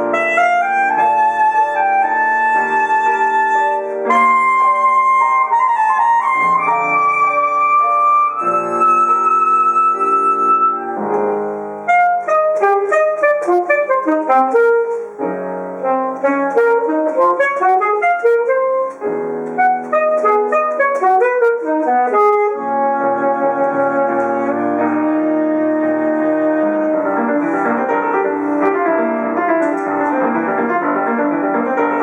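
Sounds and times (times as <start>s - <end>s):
alto saxophone: 0.0s - 11.0s, 11.8s - 15.2s, 15.8s - 27.9s
piano chords: 0.0s - 32.0s.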